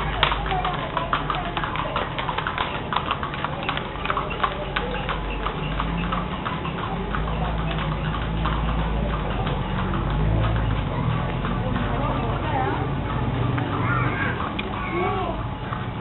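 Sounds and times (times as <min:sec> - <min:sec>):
horse hooves clip-clopping on pavement: 0:00.0 - 0:16.0.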